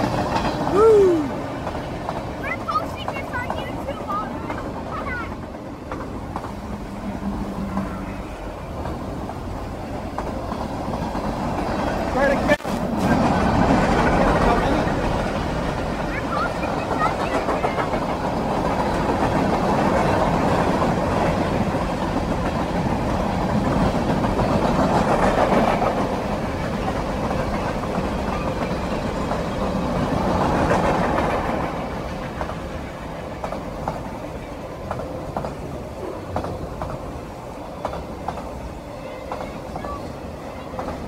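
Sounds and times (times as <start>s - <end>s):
freight train wheels rumbling: 0.0s - 41.0s
wheels clicking over rail joints: 0.0s - 41.0s.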